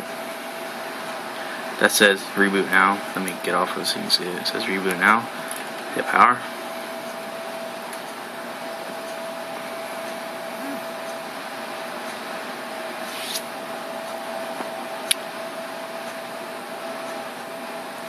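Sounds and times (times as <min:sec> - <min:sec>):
faint constant whine: 0:00.0 - 0:18.0.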